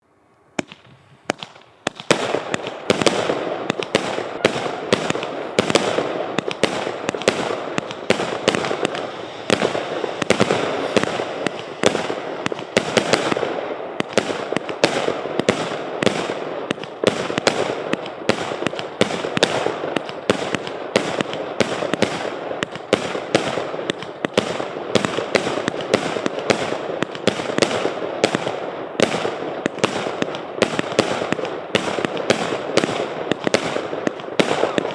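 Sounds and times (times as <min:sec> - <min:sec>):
firework battery shots: 0:00.5 - 0:34.9
dense firework crackle: 0:00.6 - 0:34.9.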